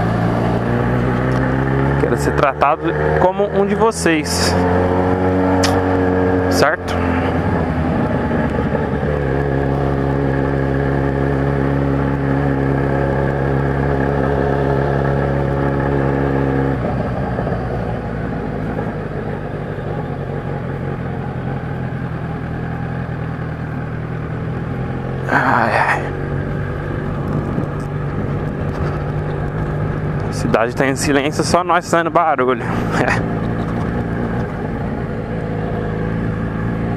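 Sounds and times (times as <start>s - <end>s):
motorcycle engine while riding: 0.0s - 36.9s.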